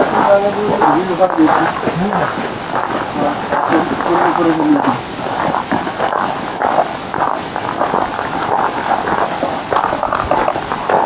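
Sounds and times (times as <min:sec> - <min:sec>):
footsteps crunching on leaf litter: 0:00.0 - 0:11.0.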